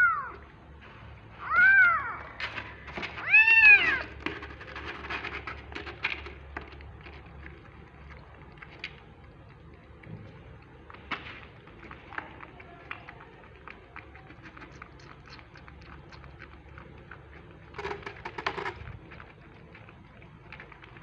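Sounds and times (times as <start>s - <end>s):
kittens suckling at bottles: 2.2s - 21.0s.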